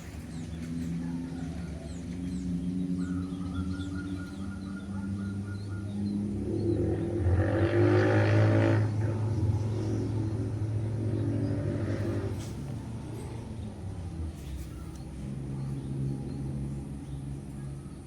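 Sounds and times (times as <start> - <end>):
steady low hum: 0.0 - 18.0
vehicle engine accelerating past: 0.0 - 18.0.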